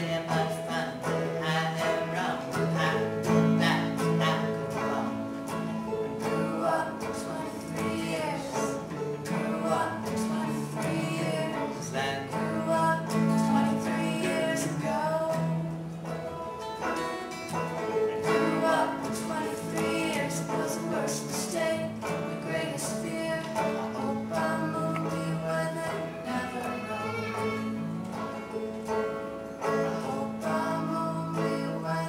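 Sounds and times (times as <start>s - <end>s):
person singing: 0.0s - 15.8s, 17.8s - 32.0s
acoustic guitar strumming: 0.0s - 32.0s
banjo picking: 0.0s - 32.0s.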